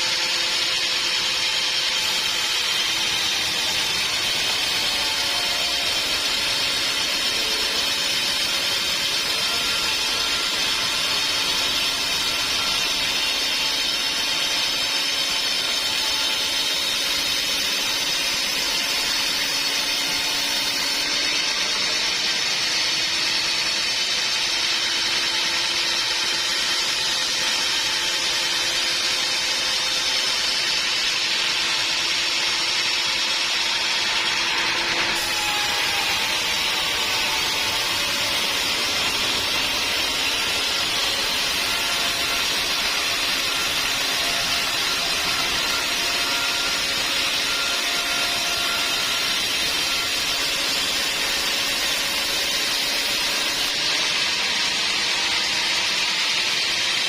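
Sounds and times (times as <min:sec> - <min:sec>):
band sawmill whining: 0:00.0 - 0:57.0.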